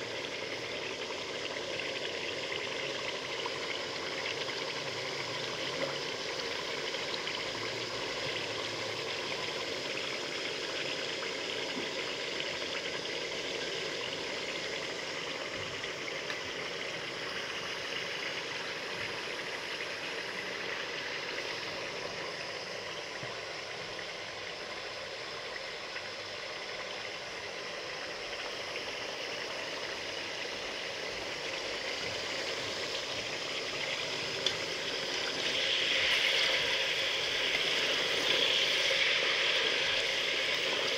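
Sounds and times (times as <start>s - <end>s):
chicken frying in oil: 0.0s - 40.9s.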